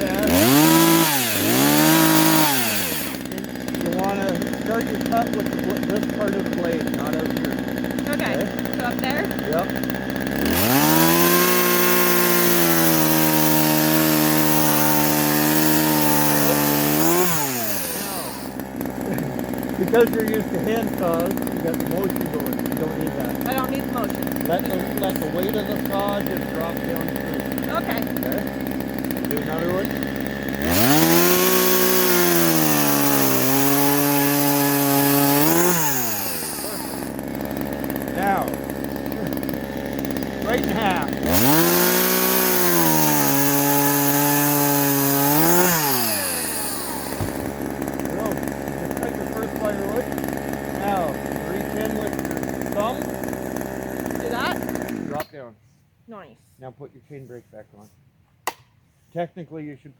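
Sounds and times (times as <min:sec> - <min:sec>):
chainsaw cutting log: 0:00.0 - 0:55.4.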